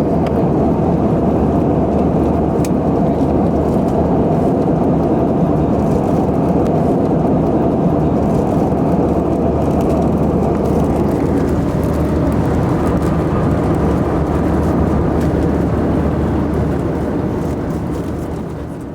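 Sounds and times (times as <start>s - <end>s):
jet engine cabin rush: 0.0s - 18.9s.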